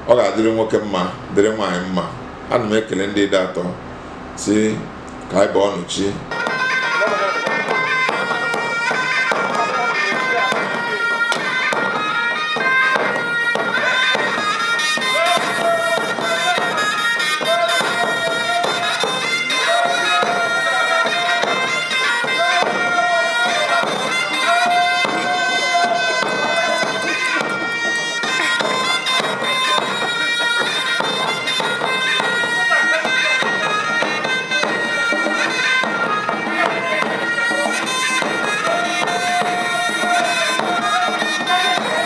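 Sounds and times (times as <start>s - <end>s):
background music with reedy wind: 6.3s - 42.0s.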